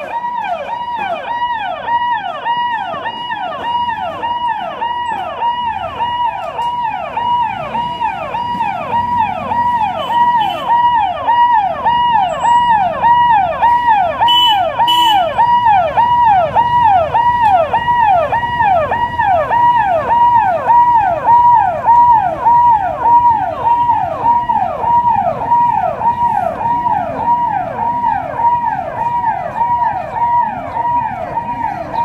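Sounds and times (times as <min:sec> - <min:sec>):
police siren wailing: 0:00.0 - 0:32.0.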